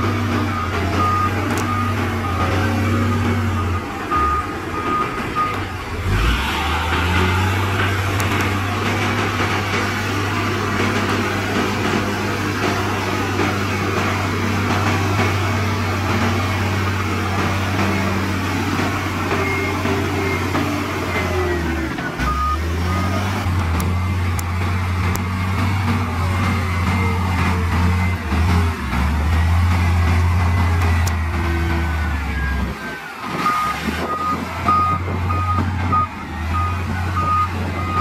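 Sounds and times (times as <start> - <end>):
heavy diesel engine running hard: 0.0 - 38.0.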